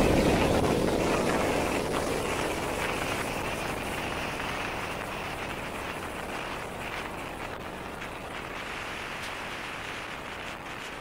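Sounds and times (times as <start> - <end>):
outboard engine at high revs: 0.0 - 11.0
water noise: 0.0 - 11.0
wind noise: 0.0 - 11.0.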